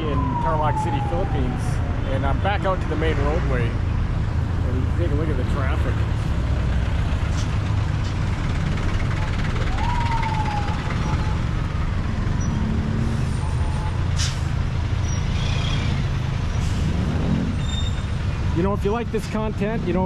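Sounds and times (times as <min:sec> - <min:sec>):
heavy road traffic rumble: 0:00.0 - 0:20.0.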